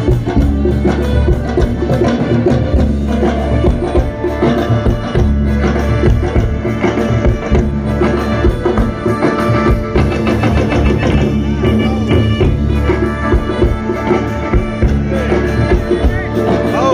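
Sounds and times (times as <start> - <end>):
amplified music over speakers: 0.0 - 16.9
drum kit beat: 0.0 - 16.9
heavy bass: 0.0 - 16.9.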